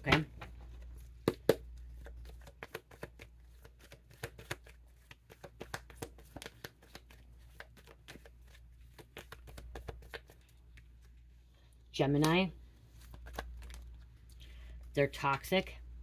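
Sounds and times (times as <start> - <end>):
cards being shuffled: 0.0 - 11.2, 12.1 - 14.2.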